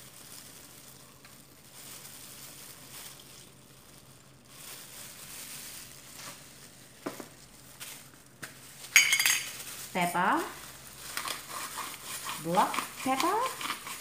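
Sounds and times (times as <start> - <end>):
plastic gloves crinkling: 0.0 - 14.0.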